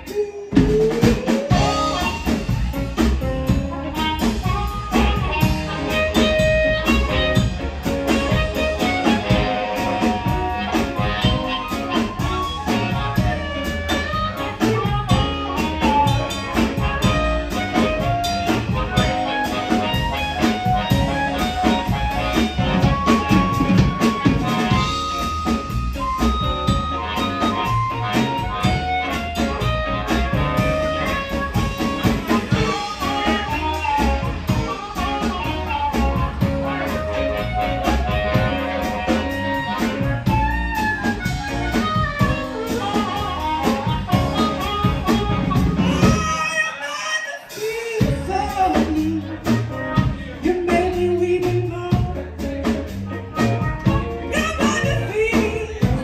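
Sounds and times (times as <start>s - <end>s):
amplified harmonica lead: 0.0s - 50.5s
blues band playing: 0.0s - 56.0s.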